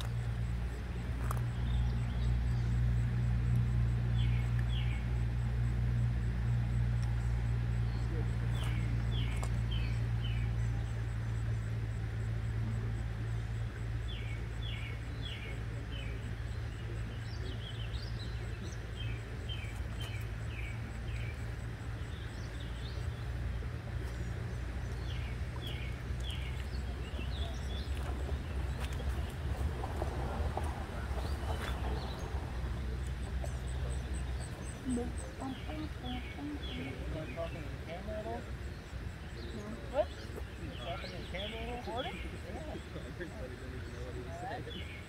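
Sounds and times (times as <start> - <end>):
bird chirping: 0.0 - 45.0
steady low rumble: 0.0 - 45.0.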